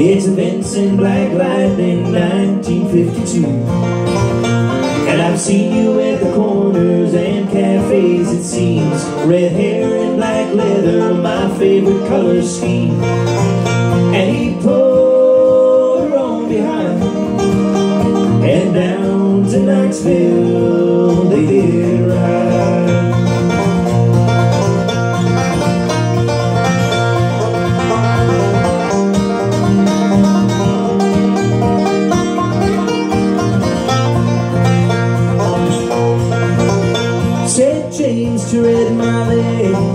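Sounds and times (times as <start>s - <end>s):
acoustic guitar: 0.0s - 39.9s
banjo: 0.0s - 39.9s.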